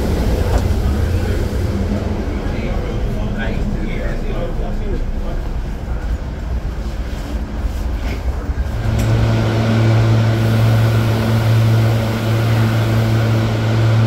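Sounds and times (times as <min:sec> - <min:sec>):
electric train hum: 0:00.0 - 0:14.0
rail car rumble: 0:00.0 - 0:14.0.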